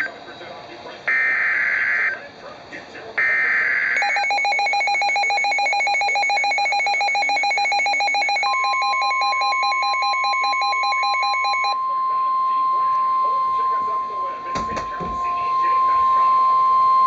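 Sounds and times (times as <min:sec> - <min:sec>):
steady warning tone: 0:00.0 - 0:17.0
electronic alarm beeping: 0:03.2 - 0:17.0.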